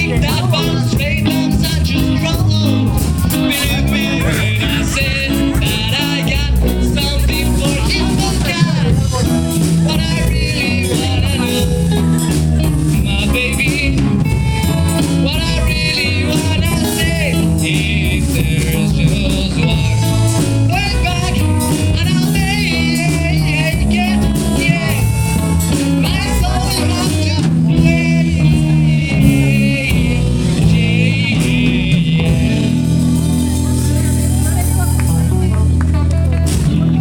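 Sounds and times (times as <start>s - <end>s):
band playing a song with vocals: 0.0s - 37.0s.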